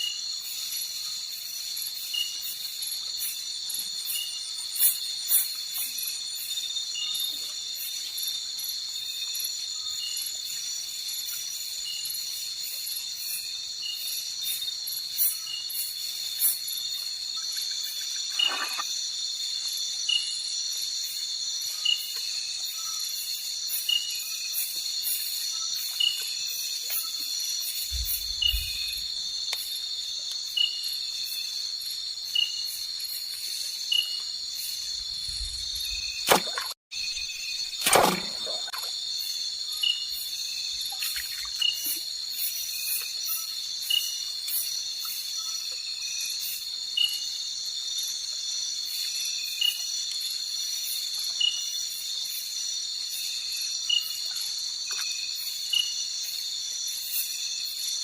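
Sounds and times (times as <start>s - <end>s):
crickets and insects chorus: 0.0s - 58.0s.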